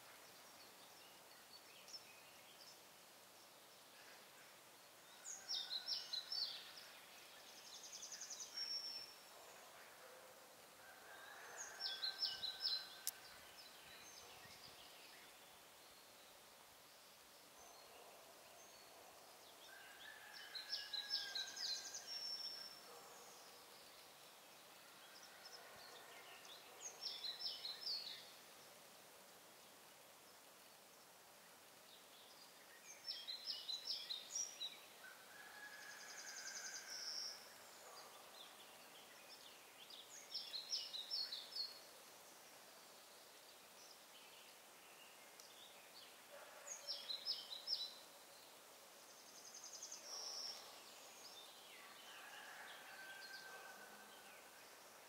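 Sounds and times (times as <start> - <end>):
outdoor background hiss: 0.0 - 55.0
songbird singing: 0.0 - 55.0.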